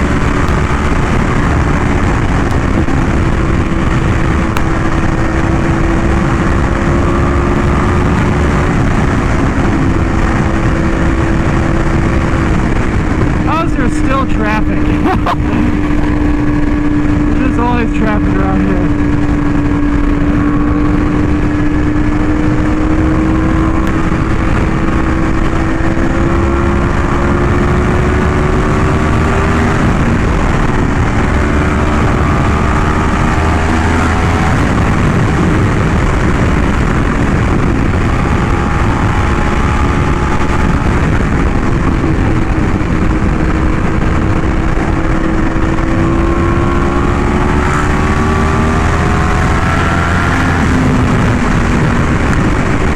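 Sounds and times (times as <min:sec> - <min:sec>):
motorcycle engine at speed: 0:00.0 - 0:52.9
wind rushing: 0:00.0 - 0:52.9.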